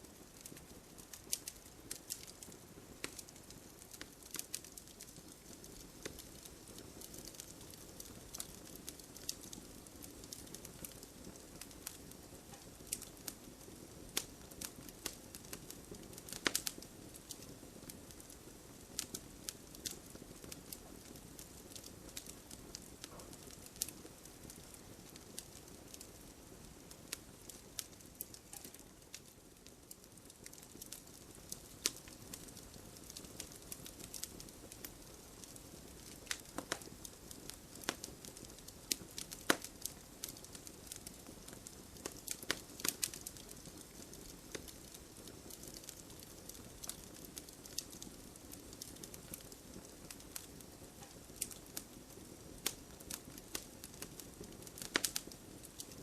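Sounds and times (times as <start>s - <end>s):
fire flames rustling: 0.0s - 56.0s
logs crackling and popping: 0.0s - 56.0s.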